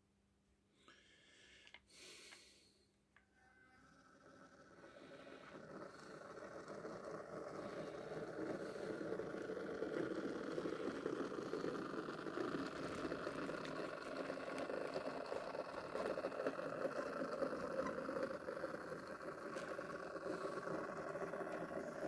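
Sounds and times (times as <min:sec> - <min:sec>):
model train motor whirring: 0:03.5 - 0:22.0.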